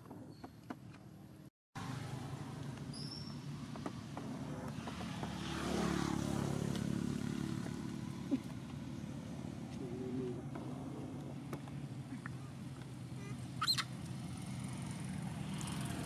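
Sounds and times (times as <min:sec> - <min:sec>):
passing vehicle engine hum: 0:01.8 - 0:16.0.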